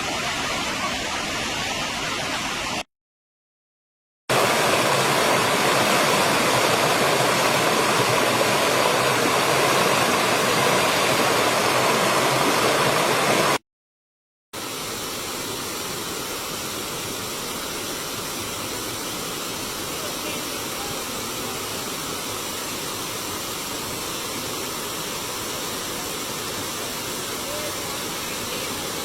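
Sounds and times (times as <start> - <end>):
waterfall rushing: 0.0 - 2.8, 4.3 - 13.6, 14.6 - 29.0.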